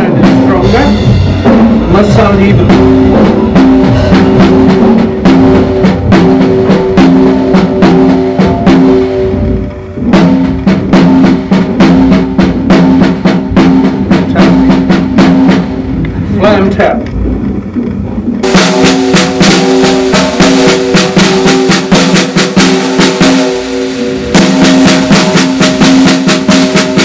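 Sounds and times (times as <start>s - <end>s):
snare drum played with sticks: 0.0s - 27.0s.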